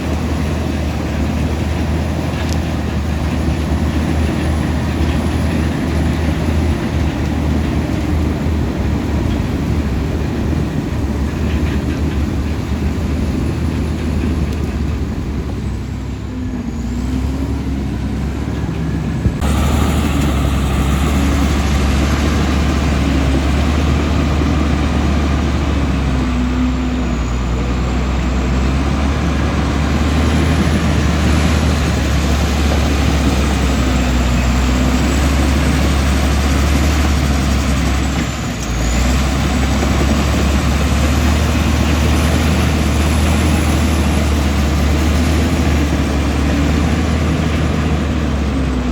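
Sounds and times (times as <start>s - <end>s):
bulldozer diesel engine under load: 0.0s - 48.9s.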